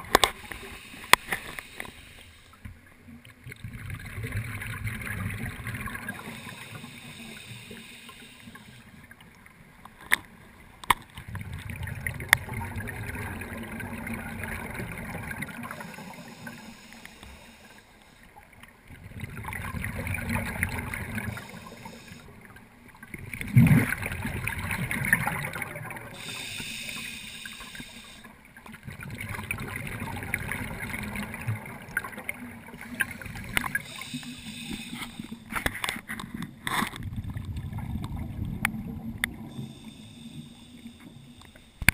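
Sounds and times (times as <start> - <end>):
underwater breathing bubbles: 0.0 - 2.7, 3.5 - 9.2, 11.3 - 22.6, 23.3 - 41.9.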